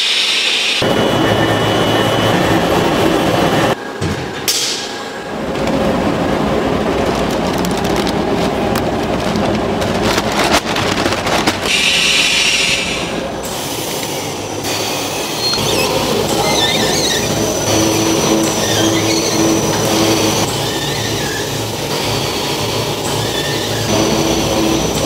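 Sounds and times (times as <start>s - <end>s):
machinery rumbling and clattering: 0.8s - 25.0s.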